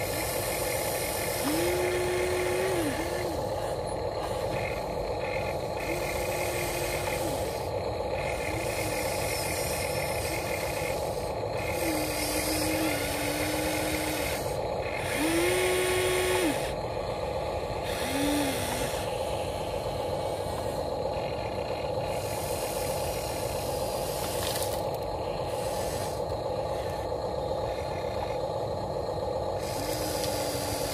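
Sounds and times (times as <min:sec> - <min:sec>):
constant motor hum: 0:00.0 - 0:30.9
electric motors whining: 0:00.0 - 0:30.9.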